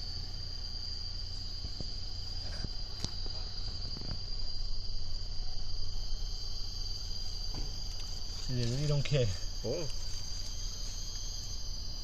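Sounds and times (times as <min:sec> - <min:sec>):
high-pitched insect drone: 0:00.0 - 0:12.0
low background rumble: 0:00.0 - 0:12.0.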